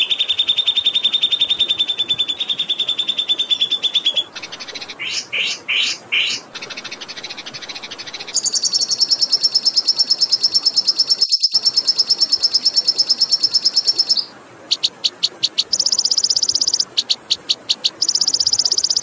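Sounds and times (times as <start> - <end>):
faint flowing water: 0.0 - 19.0
songbird trilling: 0.0 - 19.0.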